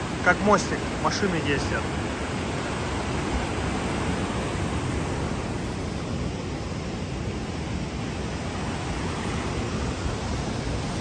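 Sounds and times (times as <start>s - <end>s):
water rushing through dam gates: 0.0s - 11.0s.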